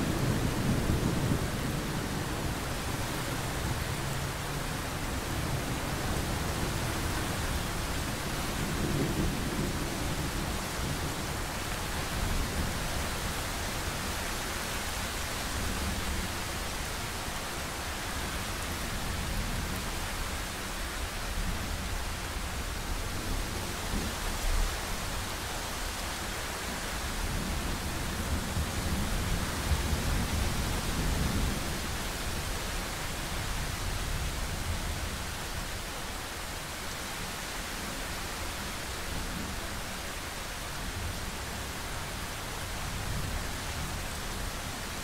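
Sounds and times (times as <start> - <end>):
steady rain: 0.0 - 45.0.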